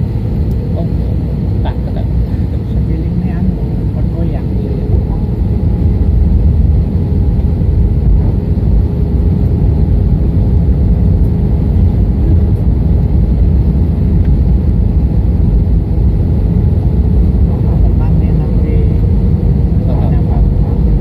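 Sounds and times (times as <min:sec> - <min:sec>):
aircraft engines and airflow rumble: 0:00.0 - 0:21.0.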